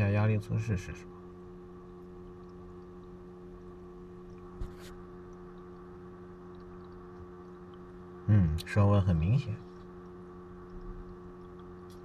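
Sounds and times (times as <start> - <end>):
small water pump humming: 0.0 - 12.0.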